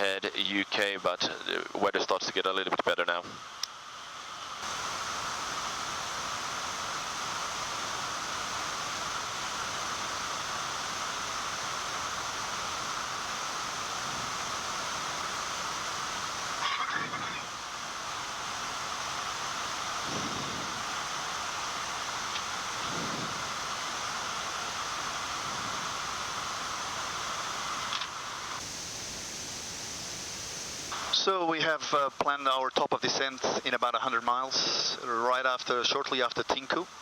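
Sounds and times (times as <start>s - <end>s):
cockpit noise hiss: 0.0s - 37.0s.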